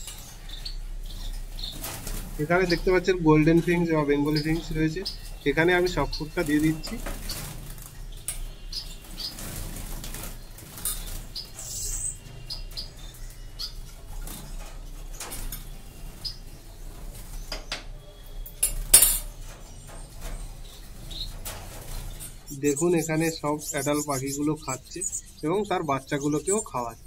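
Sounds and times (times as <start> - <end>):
finches chirping: 0.0 - 27.0
wings fluttering: 0.0 - 27.0.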